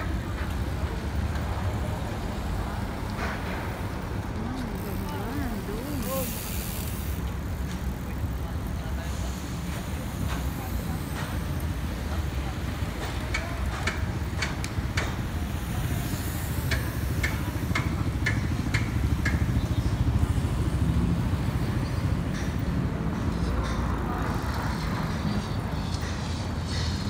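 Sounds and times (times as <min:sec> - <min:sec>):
rumble of passing traffic: 0:00.0 - 0:27.0.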